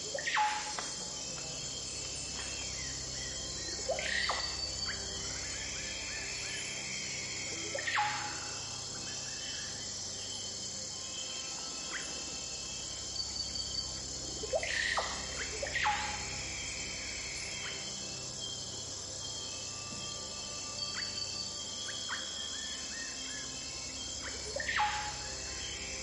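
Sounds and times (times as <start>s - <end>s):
insects chorus: 0.0s - 26.0s.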